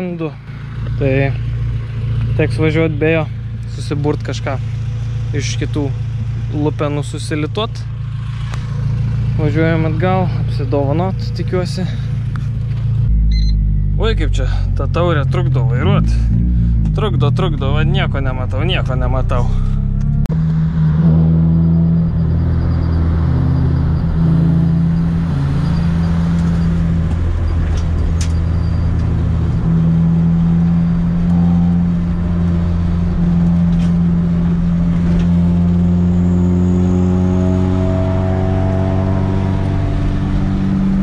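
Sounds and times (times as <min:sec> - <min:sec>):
car engine droning: 0:00.0 - 0:41.0.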